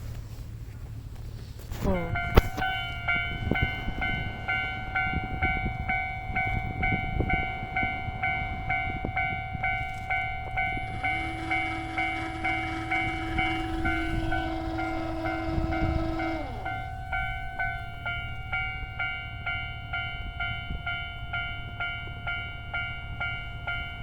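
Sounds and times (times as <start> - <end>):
train low steady tone: 0.0 - 24.0
level crossing alarm bell ringing: 2.1 - 24.0.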